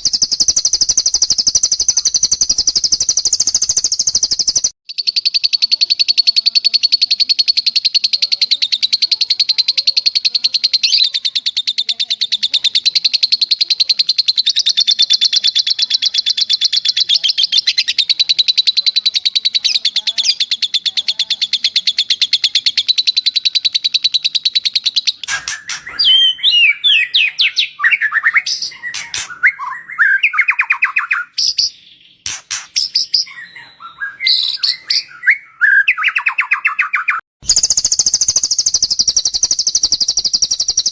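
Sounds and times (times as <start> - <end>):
bird whistled phrases: 0.0 - 40.9
rapid chattering bird trill: 0.0 - 40.9.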